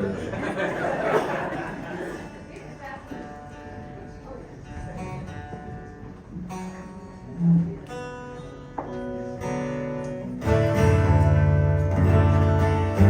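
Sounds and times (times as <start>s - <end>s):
acoustic guitar picking and strumming: 2.0s - 13.0s.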